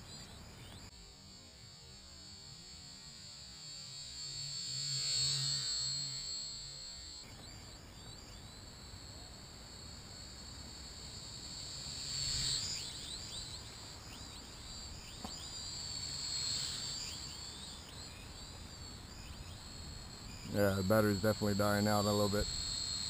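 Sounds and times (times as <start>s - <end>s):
toy quadcopter motors whining: 0.0s - 23.0s.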